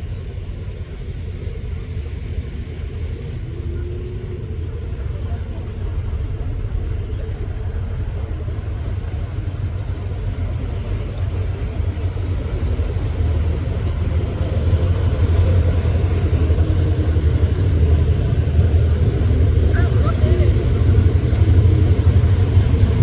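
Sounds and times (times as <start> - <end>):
diesel locomotive engines rumbling: 0.0 - 23.0.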